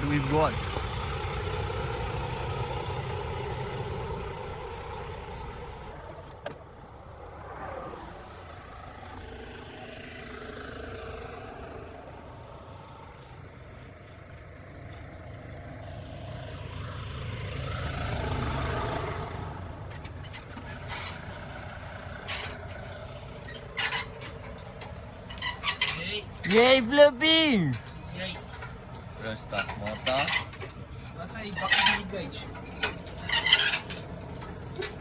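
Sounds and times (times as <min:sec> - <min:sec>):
vehicle engines rumbling: 0:00.0 - 0:35.0.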